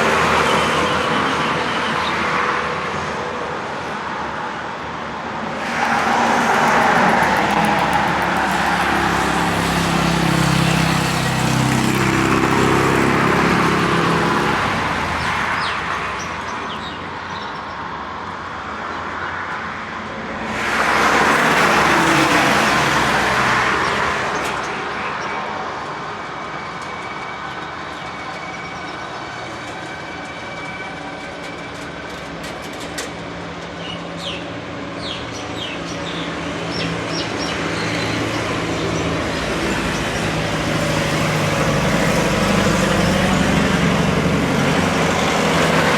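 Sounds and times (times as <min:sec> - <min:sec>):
cars and trucks passing: 0:00.0 - 0:45.9.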